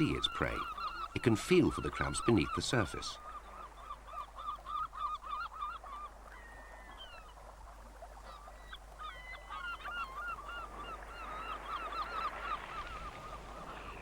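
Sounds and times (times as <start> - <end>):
flock of birds calling: 0.0 - 7.3, 8.2 - 14.0.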